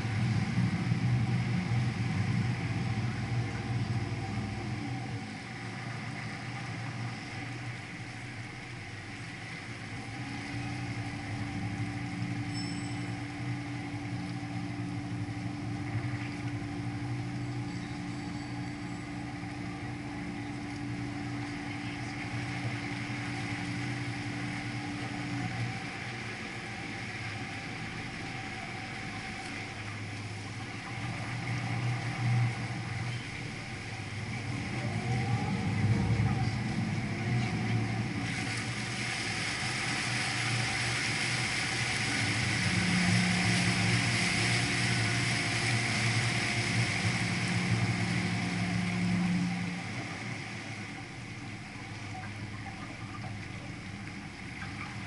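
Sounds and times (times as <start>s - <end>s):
boat engine droning: 0.0s - 55.0s
higher-pitched hum: 0.0s - 55.0s
water wash: 0.0s - 55.0s.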